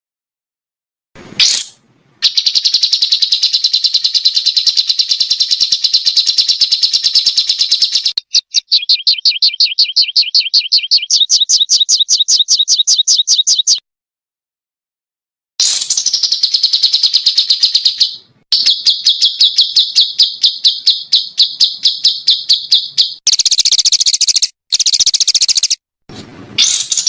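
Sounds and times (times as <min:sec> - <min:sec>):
songbird trilling call: 0:01.4 - 0:13.8, 0:15.6 - 0:25.8, 0:26.6 - 0:27.0.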